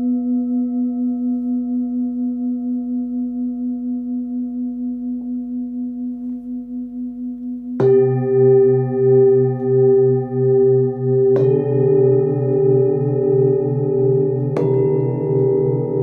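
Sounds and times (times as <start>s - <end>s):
singing bowl ringing: 0.0s - 16.0s.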